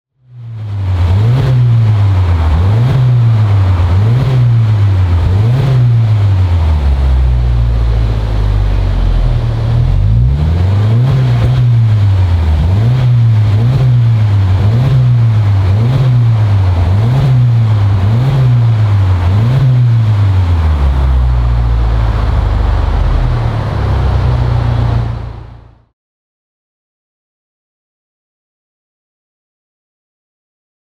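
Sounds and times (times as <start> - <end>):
car engine revving in blips: 0.3 - 25.9.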